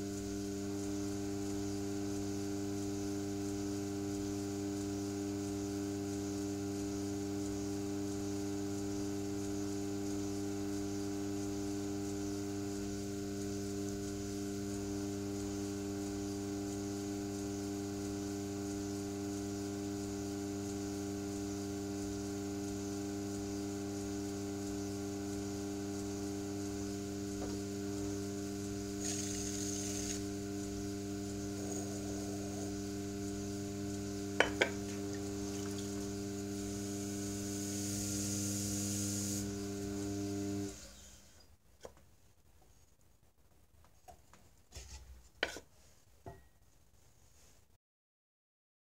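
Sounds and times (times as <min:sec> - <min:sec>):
potter's wheel humming: 0:00.0 - 0:41.2.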